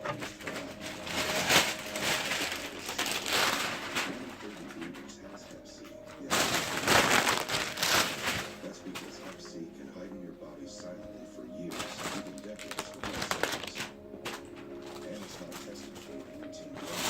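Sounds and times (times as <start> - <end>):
plastic packaging rustling: 0.0 - 9.6, 10.8 - 17.0.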